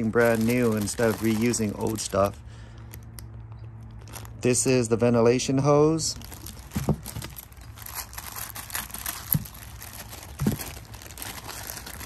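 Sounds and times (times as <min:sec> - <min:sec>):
plastic bag crinkling: 0:00.0 - 0:03.0, 0:03.8 - 0:04.8, 0:06.1 - 0:12.0.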